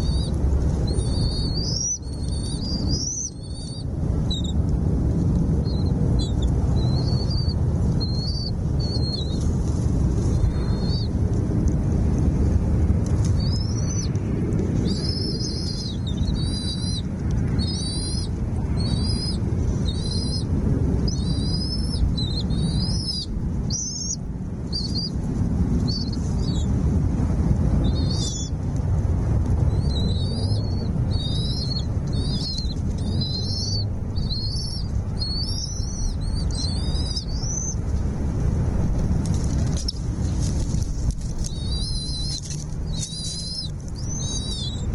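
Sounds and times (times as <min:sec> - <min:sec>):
small birds chirping: 0:00.0 - 0:04.7, 0:05.6 - 0:11.2, 0:13.2 - 0:26.8, 0:27.8 - 0:28.6, 0:29.6 - 0:38.0, 0:38.9 - 0:44.9
steady low rumble: 0:00.0 - 0:44.9.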